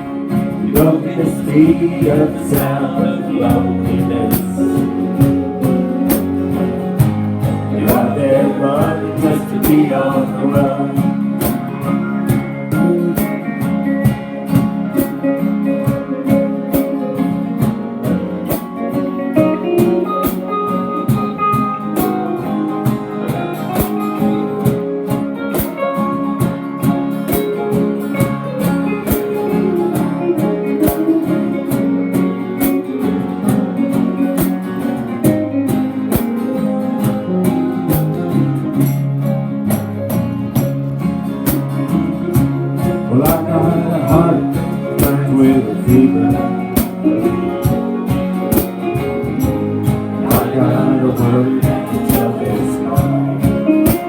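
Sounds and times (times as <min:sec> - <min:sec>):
picked guitar melody: 0:00.0 - 0:54.0
strummed acoustic guitar chords: 0:00.0 - 0:54.0.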